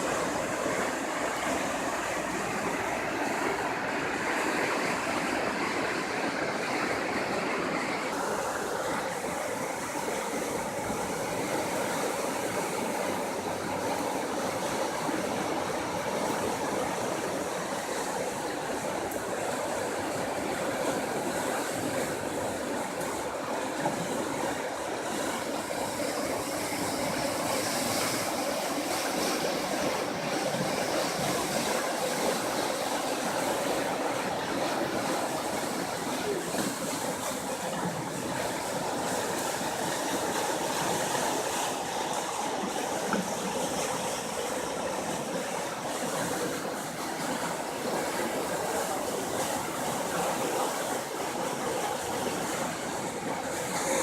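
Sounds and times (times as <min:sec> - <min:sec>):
rushing river water: 0:00.0 - 0:54.0.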